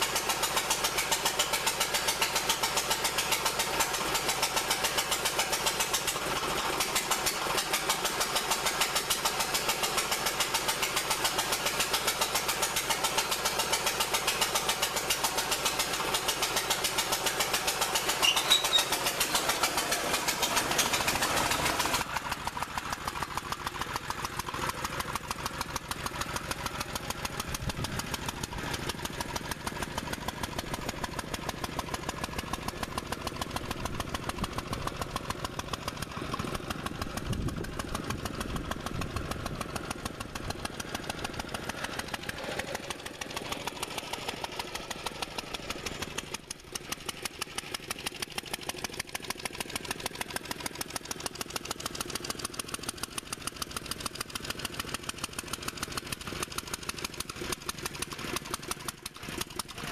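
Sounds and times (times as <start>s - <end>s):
garden tractor engine running: 0.0s - 59.9s.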